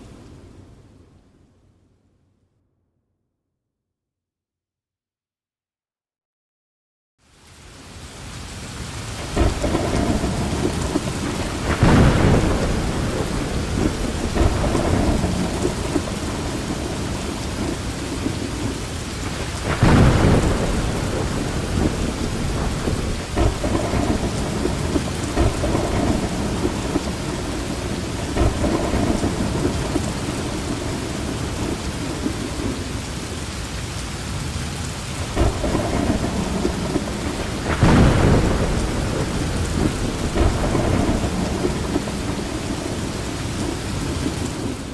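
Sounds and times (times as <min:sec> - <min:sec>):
heavy rain falling: 0:07.2 - 0:44.9.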